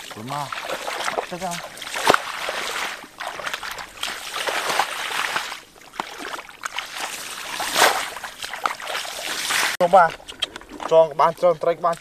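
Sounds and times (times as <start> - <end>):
feet wading through shallow water: 0.0 - 12.0.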